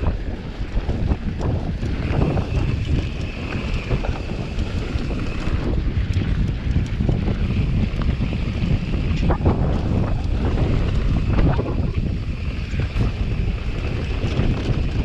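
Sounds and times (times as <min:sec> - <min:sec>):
vehicle engine rumble: 0:00.0 - 0:15.0
wind buffeting microphone: 0:00.0 - 0:15.0.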